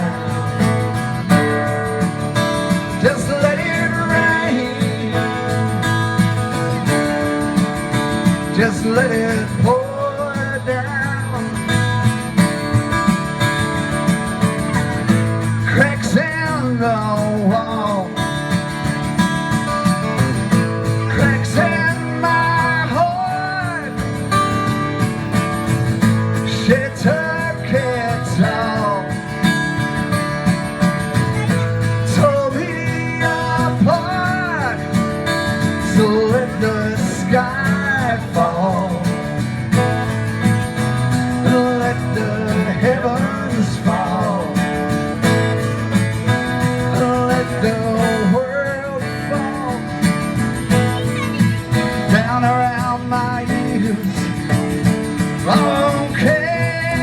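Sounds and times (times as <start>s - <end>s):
sliding lead guitar melody: 0.0s - 57.0s
strummed acoustic guitar: 0.0s - 57.0s.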